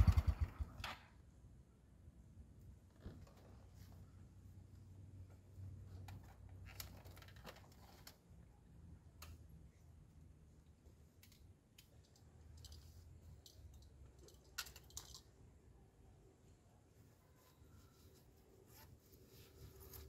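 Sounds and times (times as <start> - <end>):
faint clicks and rustles: 2.6 - 15.8, 16.4 - 20.0.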